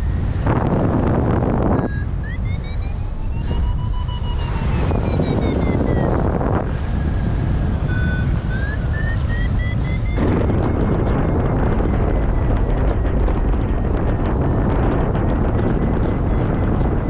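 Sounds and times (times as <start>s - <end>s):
variometer beeping tone: 0.0s - 17.0s
wind buffeting microphone: 0.0s - 17.0s.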